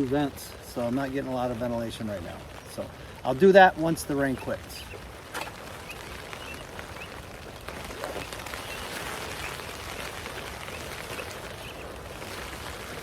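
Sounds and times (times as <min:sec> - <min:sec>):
rain pattering on tent roof: 0:00.0 - 0:13.0.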